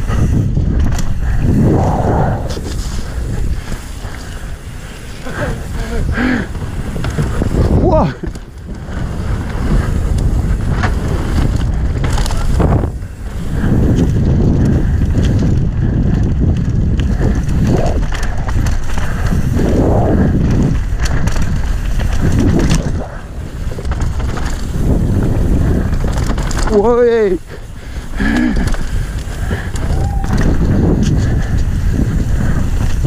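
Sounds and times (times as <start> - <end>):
bike rattling and clicking: 0.0 - 1.6, 2.6 - 33.0
tyres rumbling on trail: 0.0 - 33.0
wind buffeting microphone: 0.0 - 33.0.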